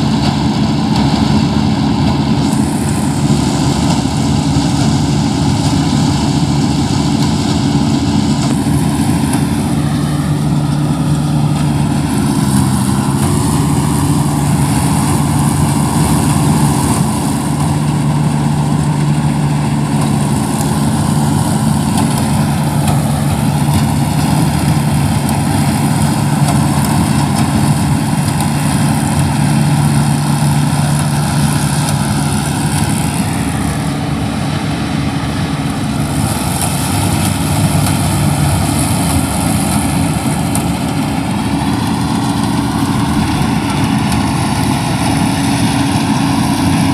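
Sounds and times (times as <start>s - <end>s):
harvesting machine engine running: 0.0s - 46.9s.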